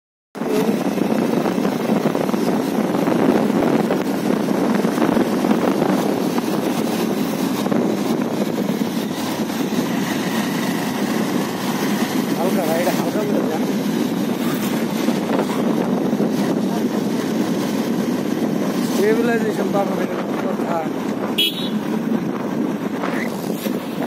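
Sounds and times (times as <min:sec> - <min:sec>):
motorcycle engine drone: 0:00.4 - 0:24.0
wind rushing noise: 0:00.4 - 0:24.0.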